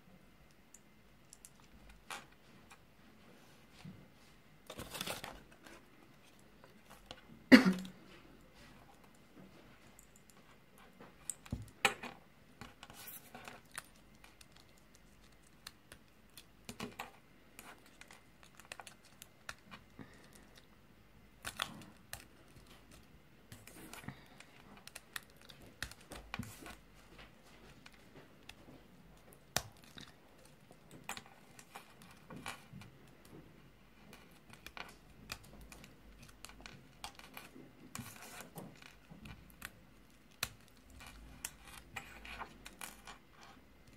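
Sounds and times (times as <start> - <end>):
crinkly rustles: 1.3 - 20.7, 21.5 - 43.9.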